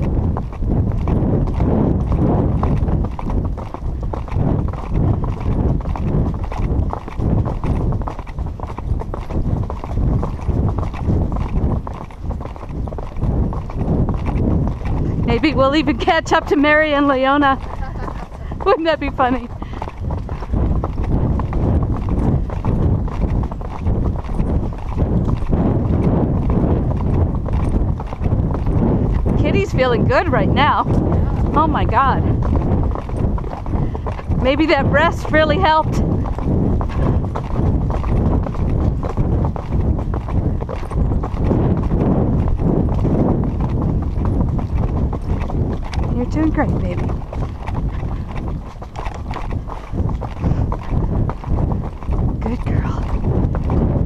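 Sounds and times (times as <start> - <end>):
constant low rumble: 0.0 - 54.0
horse hoofbeats on dirt trail: 0.0 - 54.0.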